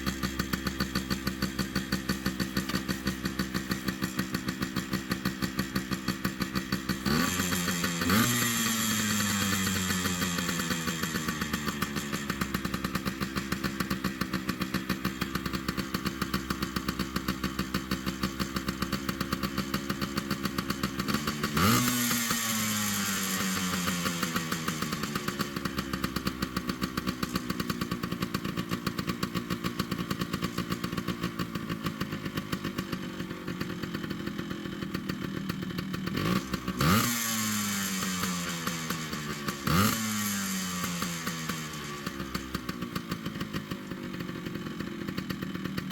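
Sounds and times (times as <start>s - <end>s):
two-stroke engine idling and revving: 0.0s - 45.9s.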